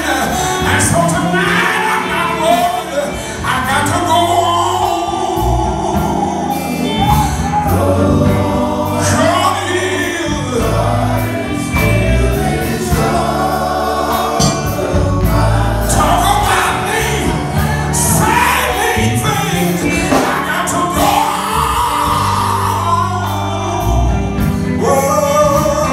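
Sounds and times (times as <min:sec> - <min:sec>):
bass guitar: 0:00.0 - 0:25.9
drums: 0:00.0 - 0:25.9
group singing harmony: 0:00.0 - 0:25.9
man singing lead vocal: 0:00.0 - 0:25.9.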